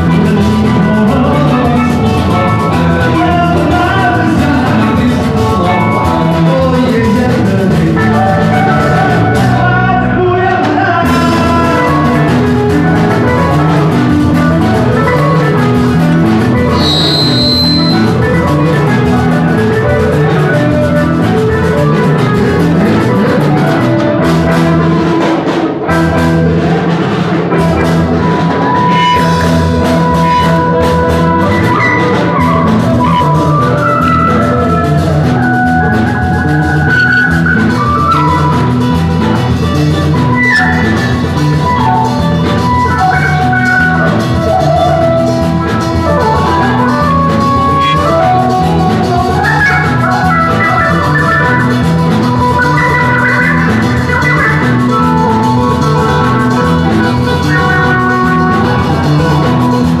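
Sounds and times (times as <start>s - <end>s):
drum kit beat: 0.0s - 9.7s, 10.6s - 60.0s
electric guitar: 0.0s - 60.0s.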